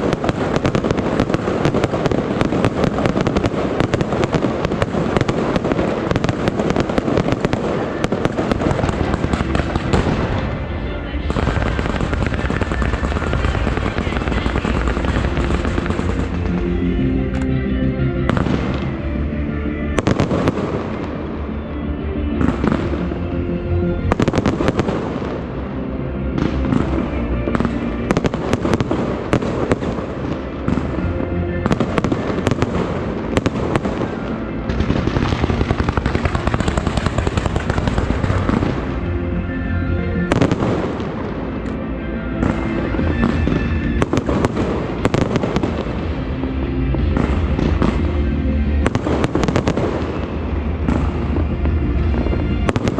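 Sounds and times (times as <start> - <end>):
fireworks bangs: 0.0 - 17.6, 18.2 - 21.6, 22.3 - 52.9
fireworks crackling: 0.0 - 52.9
music with steady tones: 0.0 - 52.9.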